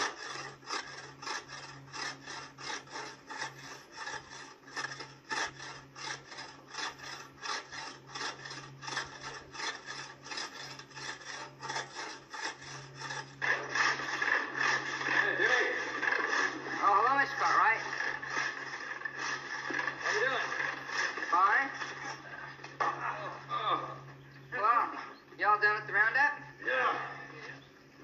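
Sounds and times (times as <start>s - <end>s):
hand tool rasping on wood: 0.0s - 24.5s.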